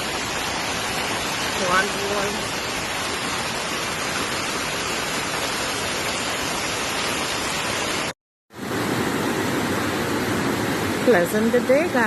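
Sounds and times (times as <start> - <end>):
heavy rain: 0.0 - 12.0
running floodwater: 0.0 - 12.0.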